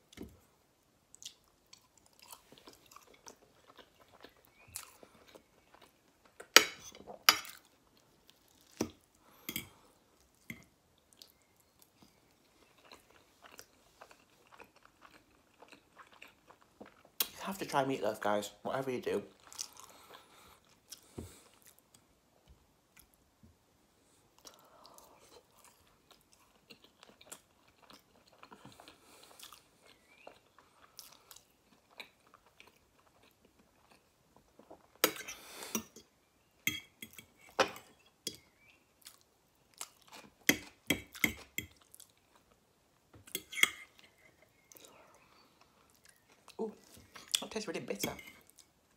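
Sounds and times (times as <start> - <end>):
chewing and wet mouth sounds: 1.1 - 17.5, 19.3 - 22.1, 24.3 - 42.6, 43.3 - 48.9.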